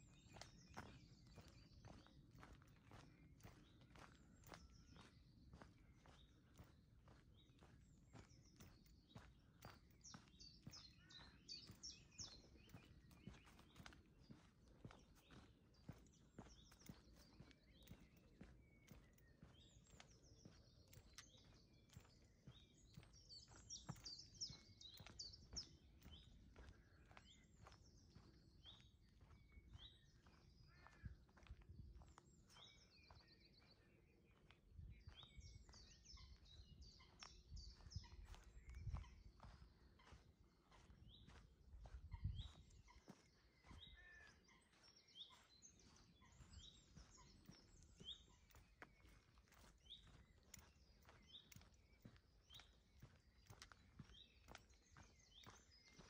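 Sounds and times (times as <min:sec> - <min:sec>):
faint birdsong chirps and trills: 0:00.0 - 0:56.0
soft footsteps on path: 0:00.0 - 0:56.0.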